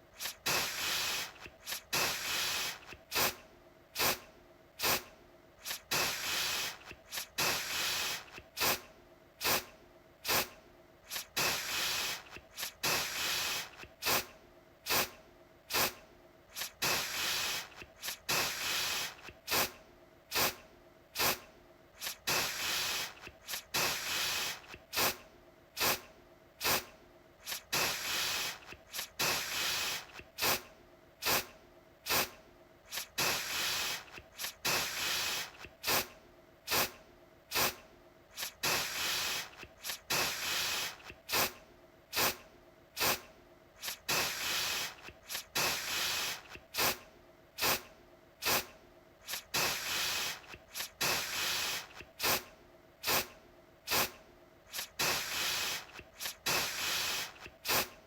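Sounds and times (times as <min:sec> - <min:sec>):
aerosol can spraying: 0:00.2 - 0:03.4, 0:04.0 - 0:04.2, 0:04.8 - 0:14.3, 0:14.9 - 0:20.6, 0:21.2 - 0:21.4, 0:22.0 - 0:25.2, 0:25.8 - 0:26.0, 0:26.6 - 0:31.5, 0:32.1 - 0:36.1, 0:36.7 - 0:42.4, 0:43.0 - 0:47.0, 0:47.6 - 0:53.3, 0:53.9 - 0:58.0.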